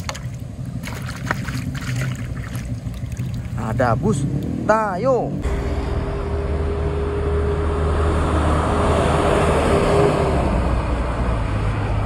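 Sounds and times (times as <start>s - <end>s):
bus engine drone: 0.0s - 12.0s
tyre and road noise: 0.0s - 12.0s.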